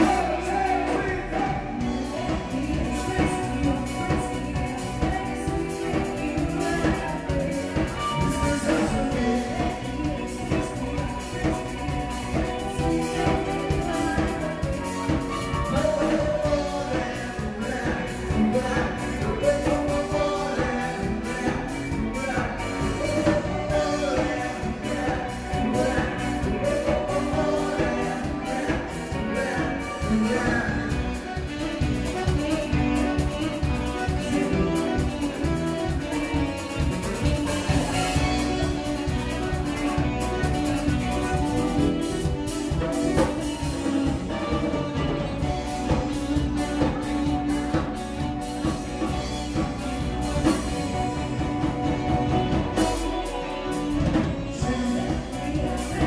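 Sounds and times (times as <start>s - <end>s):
drum kit beat: 0.0s - 56.0s
guitar: 0.0s - 56.0s
keyboard: 0.0s - 56.0s
live band dance music: 0.0s - 56.0s.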